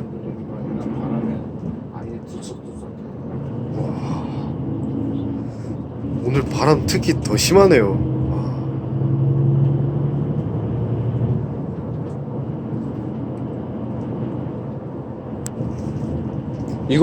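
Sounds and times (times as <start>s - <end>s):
bus engine hum: 0.0s - 17.0s
road and wind noise: 0.0s - 17.0s.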